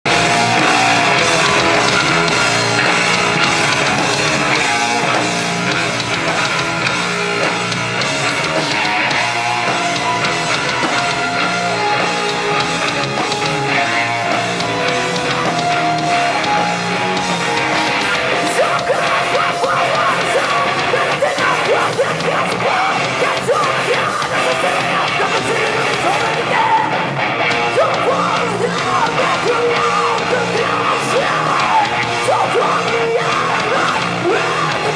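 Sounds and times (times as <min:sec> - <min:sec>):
drums: 0:00.0 - 0:34.9
electric guitars: 0:00.0 - 0:34.9.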